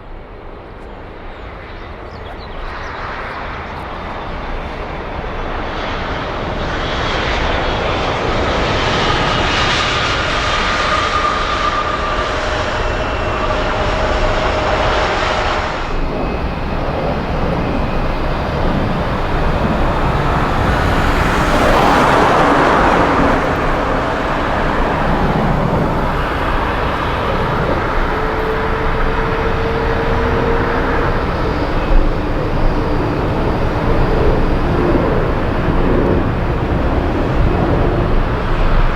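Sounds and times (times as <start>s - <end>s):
jet airliner engines roaring: 0.0s - 38.9s
aircraft passing: 2.7s - 38.9s.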